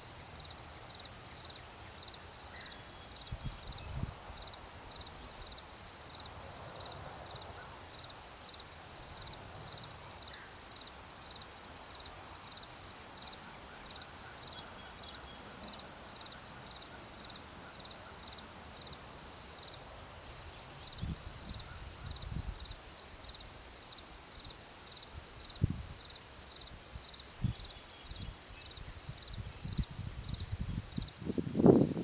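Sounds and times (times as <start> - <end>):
insects chirping: 0.1 - 32.0.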